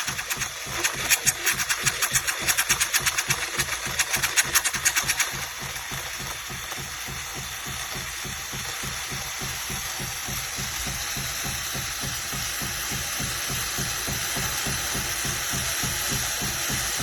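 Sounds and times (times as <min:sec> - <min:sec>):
espresso machine pump throbbing: 0:00.0 - 0:17.0.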